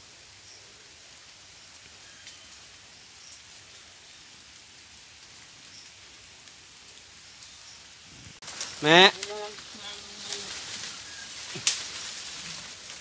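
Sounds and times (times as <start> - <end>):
light rain on trees: 0.0 - 13.0
raindrops ticking: 1.2 - 13.0.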